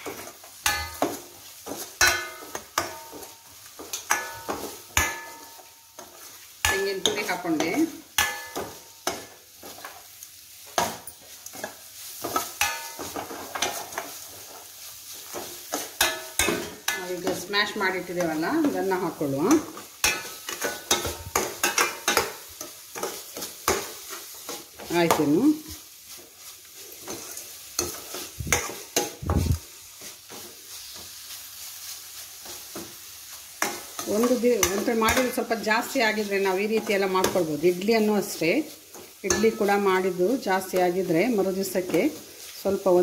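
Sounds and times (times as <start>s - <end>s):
light sizzle: 0.0s - 43.0s
spatula scraping a pan: 0.0s - 43.0s.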